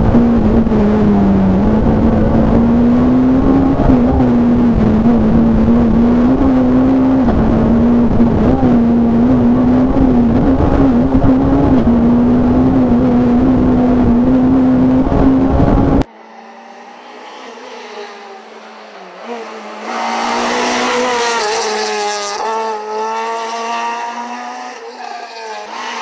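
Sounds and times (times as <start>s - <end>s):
road and cabin noise: 0.0s - 24.0s
rally car engine at high revs: 0.0s - 26.0s.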